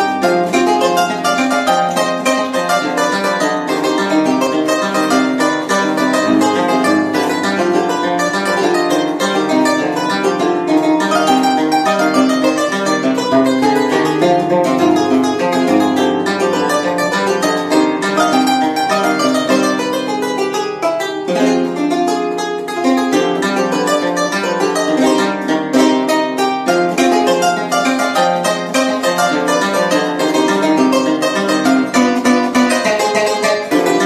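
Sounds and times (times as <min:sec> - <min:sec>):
harp playing solo: 0:00.0 - 0:34.0.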